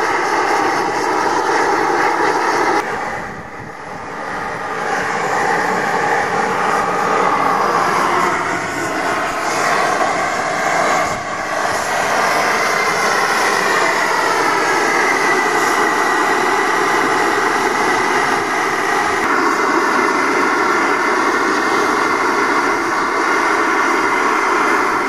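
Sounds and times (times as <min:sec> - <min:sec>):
hot bulb engine running: 0:00.0 - 0:25.0.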